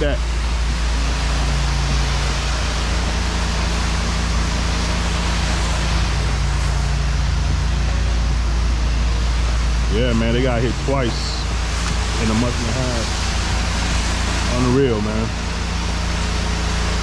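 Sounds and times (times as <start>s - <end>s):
low engine drone: 0.0s - 17.0s
water spray hissing: 0.0s - 17.0s.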